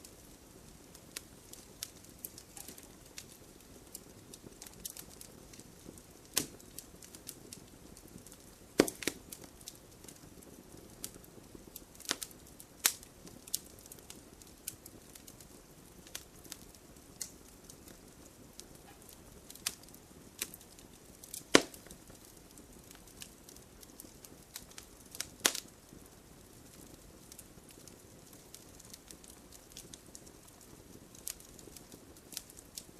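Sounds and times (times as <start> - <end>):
campfire wood crackling and popping: 0.0 - 32.9
fire hiss: 0.0 - 32.9.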